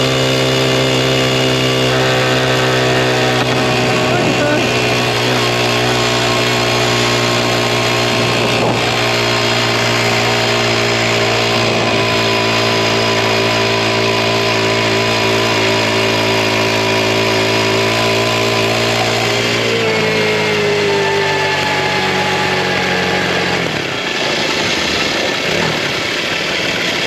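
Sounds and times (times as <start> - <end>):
mini bike engine running: 0.0 - 27.0.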